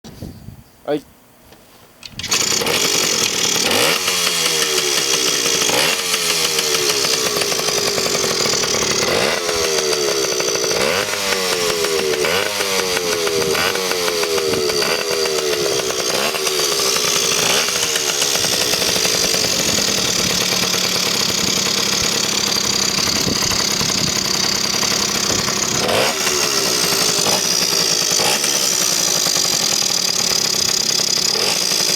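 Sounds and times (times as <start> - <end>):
two-stroke engine revving: 2.0 - 31.9.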